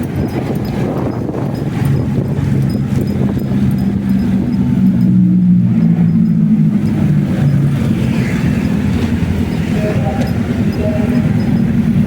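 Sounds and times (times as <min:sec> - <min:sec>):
motorcycle engine droning: 0:00.0 - 0:12.0
road and wind noise: 0:00.0 - 0:12.0.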